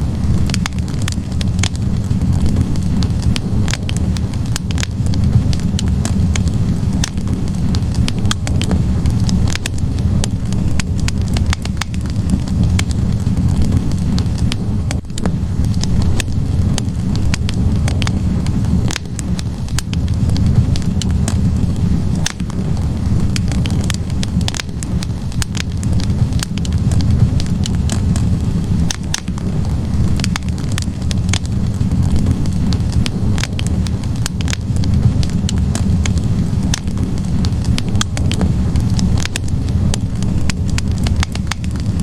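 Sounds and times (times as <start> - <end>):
burning logs crackling: 0.0 - 42.0
low roar of flames: 0.0 - 42.0.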